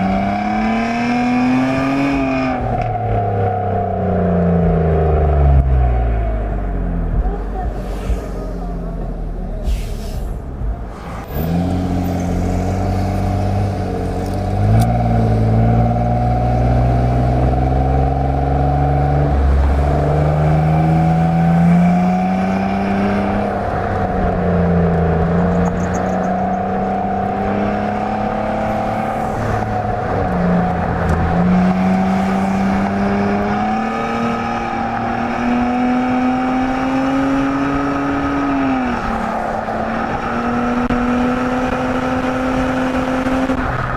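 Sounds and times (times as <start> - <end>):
car exhaust revving: 0.0 - 43.9.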